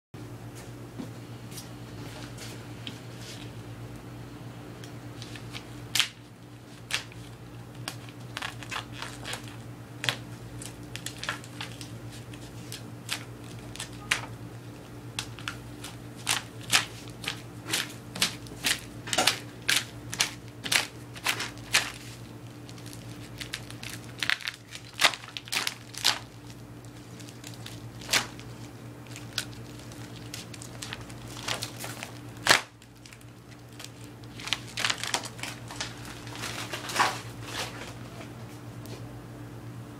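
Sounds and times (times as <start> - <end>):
steady low hum: 0.2 - 39.9
sticker sheet crinkling: 5.2 - 38.1.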